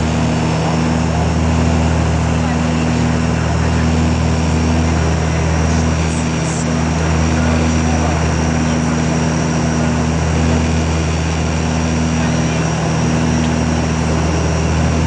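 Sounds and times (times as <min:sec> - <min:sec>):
turboprop cabin drone: 0:00.0 - 0:15.0.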